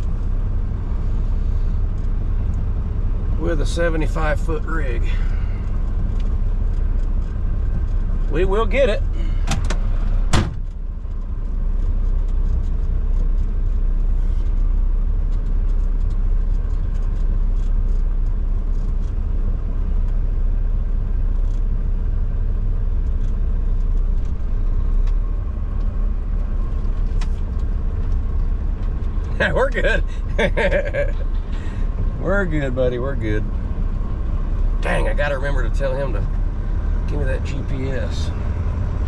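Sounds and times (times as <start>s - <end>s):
diesel truck engine rumbling: 0.0s - 39.0s.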